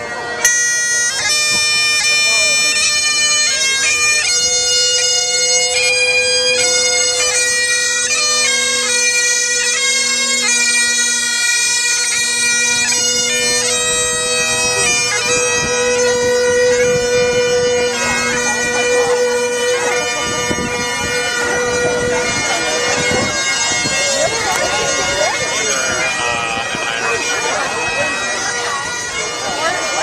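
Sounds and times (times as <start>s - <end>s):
bagpipes playing melody: 0.0s - 30.0s.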